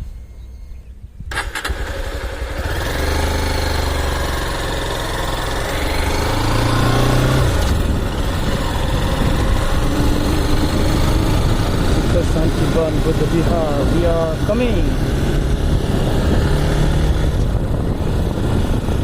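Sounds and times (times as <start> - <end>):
motorcycle engine riding off: 1.3 - 19.0.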